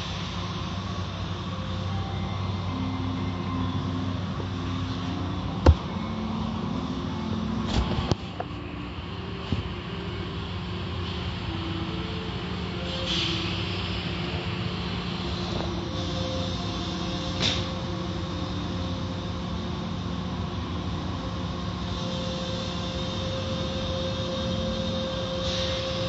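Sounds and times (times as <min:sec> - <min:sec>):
car wash machinery hum: 0:00.0 - 0:26.0.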